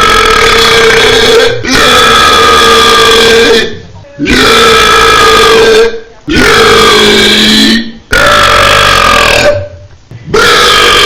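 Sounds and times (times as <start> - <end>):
long loud belches: 0.0 - 11.0.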